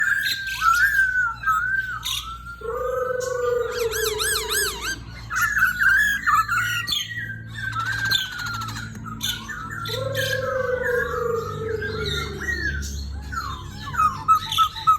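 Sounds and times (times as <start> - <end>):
bird whistling and warbling: 0.0 - 14.9.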